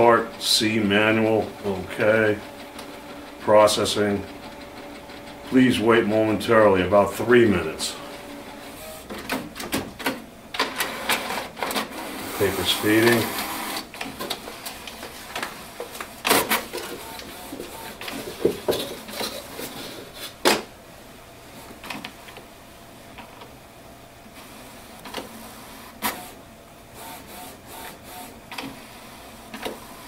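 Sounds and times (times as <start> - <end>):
inkjet printer running: 0.0 - 19.8, 24.4 - 30.0.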